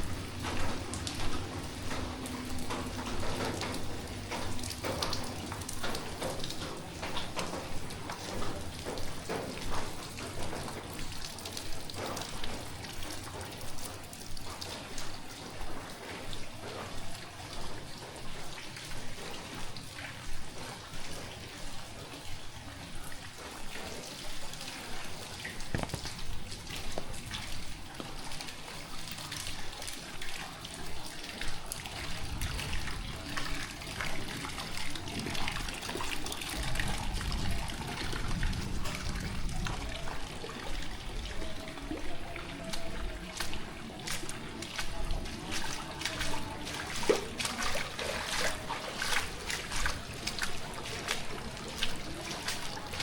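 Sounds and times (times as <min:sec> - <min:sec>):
footsteps through water: 0:00.0 - 0:53.0
heavy rain falling: 0:00.0 - 0:53.0
water trickling and splashing: 0:00.0 - 0:53.0.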